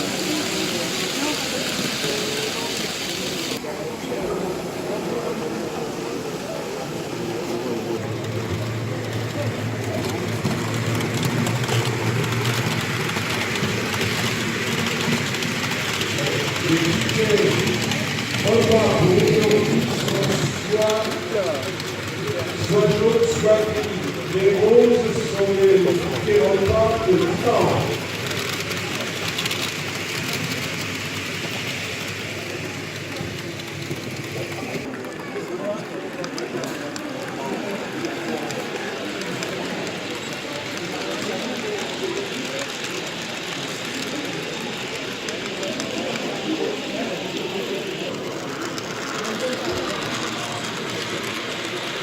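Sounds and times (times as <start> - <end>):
model train whirring on rails: 0.0 - 52.0.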